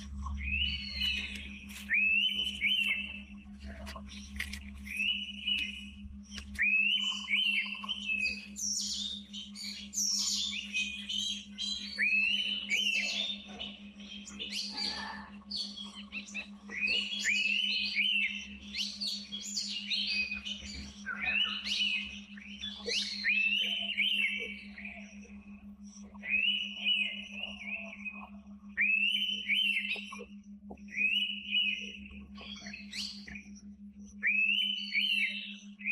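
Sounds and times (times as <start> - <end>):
high bird chirps and twitters: 0.2 - 35.9.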